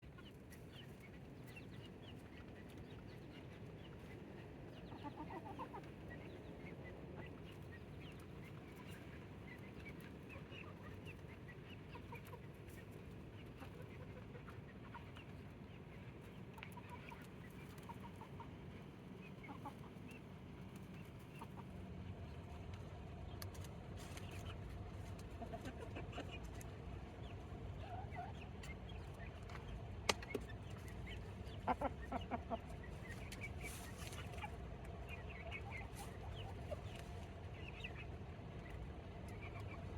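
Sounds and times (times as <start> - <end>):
chickens clucking: 0.0 - 39.9
low background rumble: 0.0 - 39.9.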